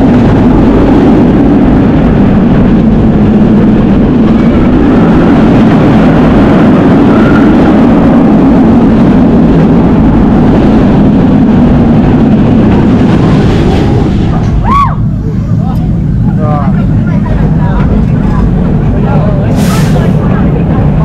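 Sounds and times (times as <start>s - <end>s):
roller coaster rumbling: 0.0s - 21.0s
wind on microphone: 0.0s - 21.0s.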